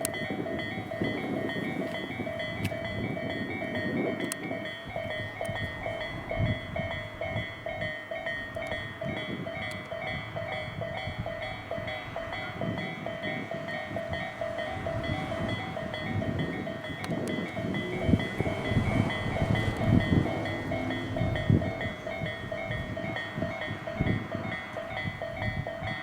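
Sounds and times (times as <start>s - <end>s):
electric train rumbling past: 0.0s - 26.0s
level-crossing warning bell: 0.0s - 26.0s
sharp train clacks: 0.0s - 26.0s.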